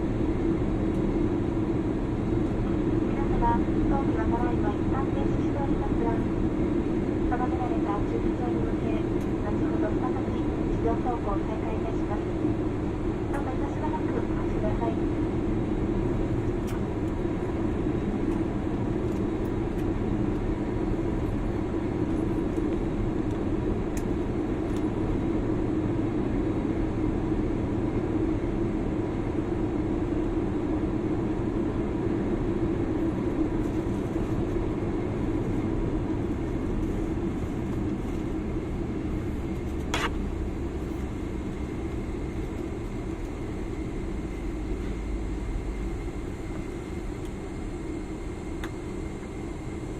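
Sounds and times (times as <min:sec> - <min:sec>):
airliner cabin hum: 0:00.0 - 0:49.9.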